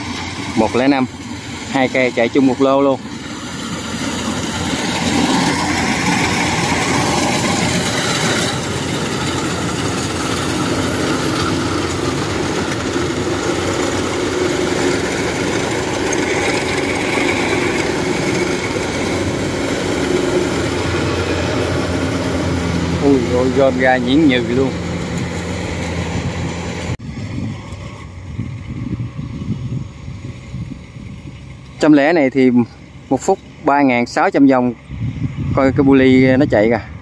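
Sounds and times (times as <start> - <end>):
combine harvester engine and threshing: 0.0 - 37.0.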